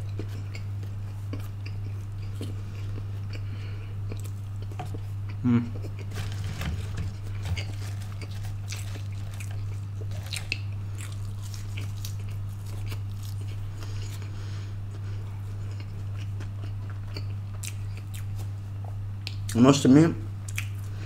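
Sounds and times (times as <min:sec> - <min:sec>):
person chewing crunchy food: 0:00.0 - 0:19.6, 0:20.4 - 0:21.0.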